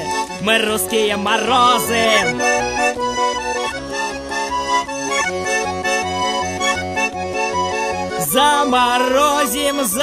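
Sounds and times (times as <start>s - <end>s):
accordion playing chords: 0.0s - 10.0s
alternating bass line: 0.0s - 10.0s.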